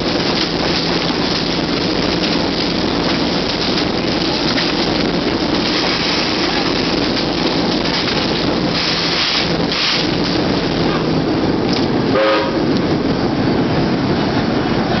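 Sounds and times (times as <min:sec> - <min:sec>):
train working along track: 0:00.0 - 0:15.0.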